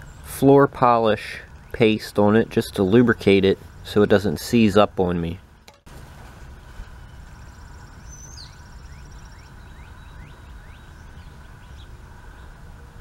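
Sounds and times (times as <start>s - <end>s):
small birds singing: 0.0s - 5.7s, 6.6s - 13.0s.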